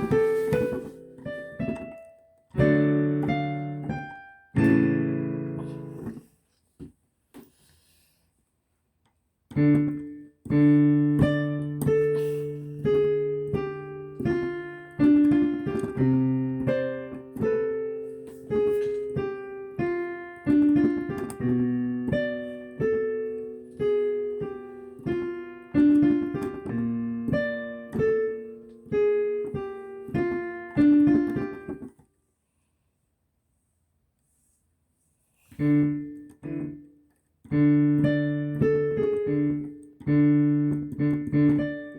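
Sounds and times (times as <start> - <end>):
solo piano melody: 0.0 - 6.3, 9.5 - 32.0, 35.5 - 41.9.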